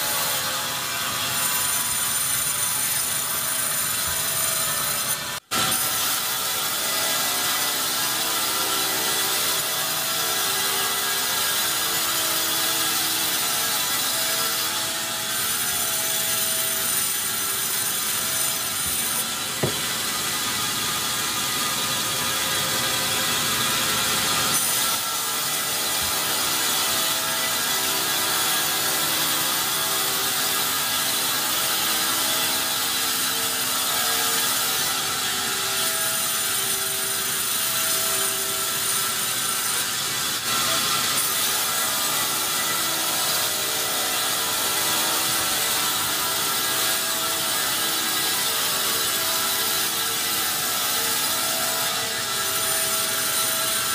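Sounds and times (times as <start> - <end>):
band saw cutting log: 0.0 - 53.9.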